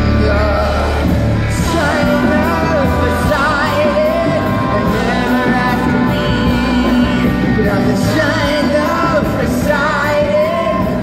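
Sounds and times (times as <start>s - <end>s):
singer holding vibrato notes: 0.0s - 10.8s
live rock band: 0.0s - 11.0s.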